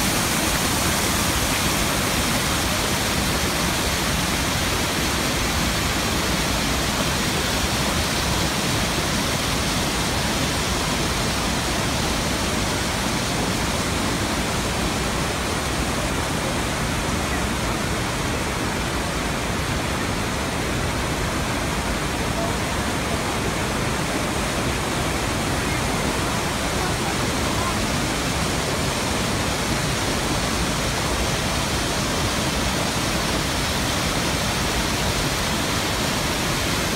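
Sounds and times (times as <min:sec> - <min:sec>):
waterfall roar: 0:00.0 - 0:36.9.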